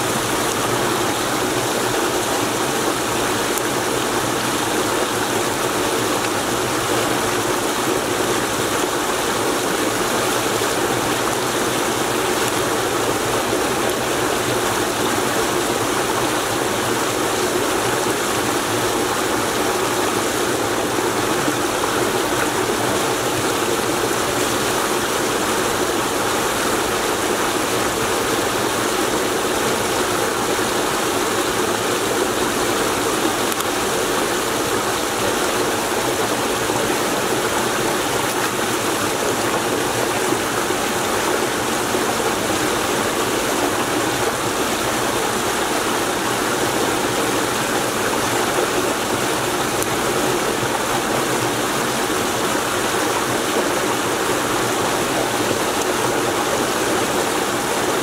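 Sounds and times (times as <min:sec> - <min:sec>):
water rushing through ditch: 0:00.0 - 0:58.0.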